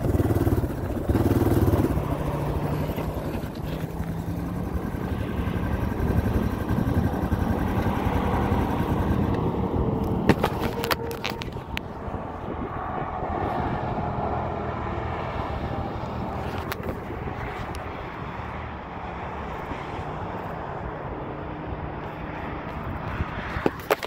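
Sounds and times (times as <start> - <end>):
vehicle engine and traffic noise: 0.0 - 24.0.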